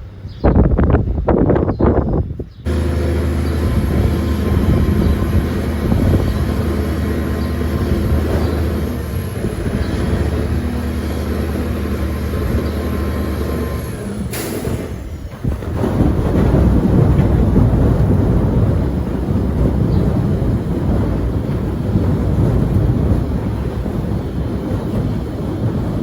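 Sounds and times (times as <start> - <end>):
diesel truck engine running: 2.7 - 26.0.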